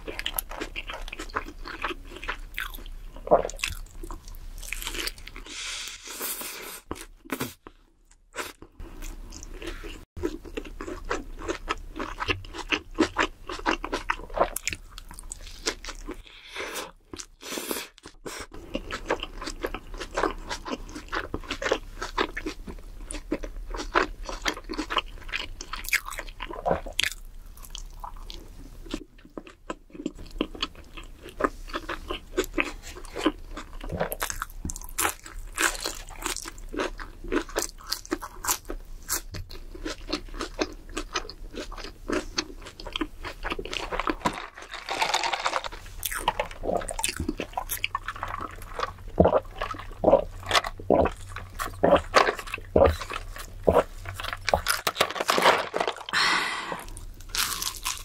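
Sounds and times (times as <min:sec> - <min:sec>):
crunching and chewing food: 0:00.0 - 0:58.0.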